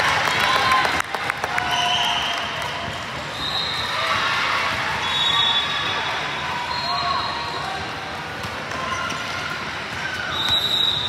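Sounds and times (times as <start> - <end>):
crowd chatter: 0.0 - 11.0.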